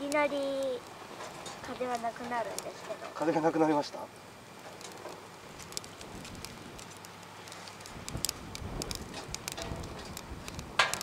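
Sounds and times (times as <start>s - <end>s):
sharp ticks and pops: 0.0s - 2.9s, 4.6s - 11.0s
wood fire crackling: 0.0s - 11.0s.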